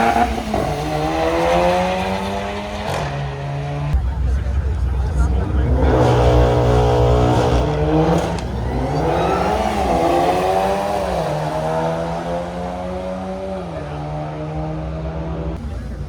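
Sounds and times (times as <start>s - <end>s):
car engine under throttle: 0.0s - 16.0s.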